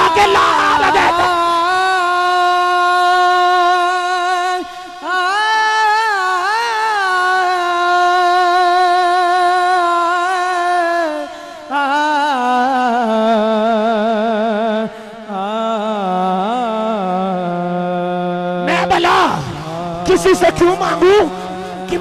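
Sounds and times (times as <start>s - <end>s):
man singing long ornamented notes: 0.0s - 22.0s.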